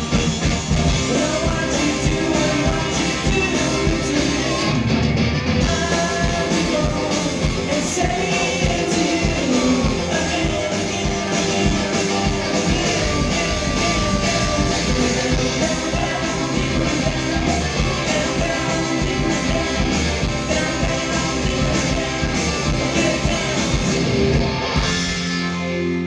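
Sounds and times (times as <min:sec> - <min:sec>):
bass guitar: 0:00.0 - 0:26.0
drum kit: 0:00.0 - 0:26.0
electric guitar: 0:00.0 - 0:26.0
rock band playing live: 0:00.0 - 0:26.0.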